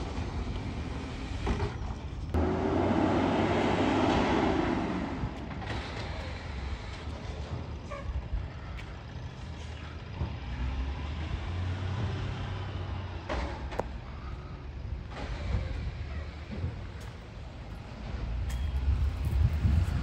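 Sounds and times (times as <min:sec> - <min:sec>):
heavy truck engine rumbling: 0:00.0 - 0:20.0.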